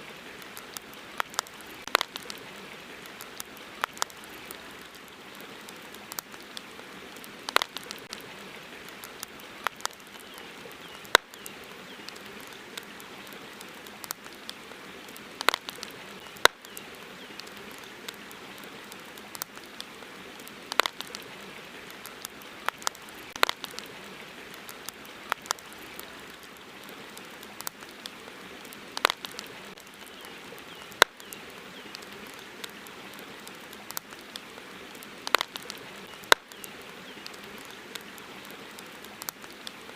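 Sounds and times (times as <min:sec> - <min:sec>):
campfire crackling and popping: 0:00.0 - 0:39.9
river hissing softly: 0:00.0 - 0:39.9.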